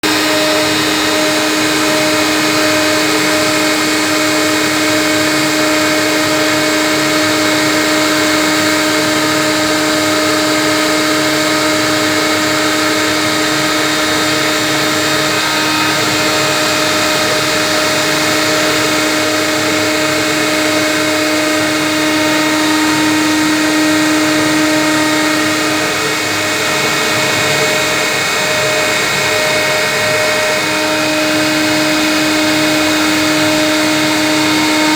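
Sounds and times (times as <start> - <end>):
cutting hiss: 0.0 - 34.9
router spindle whine: 0.0 - 34.9.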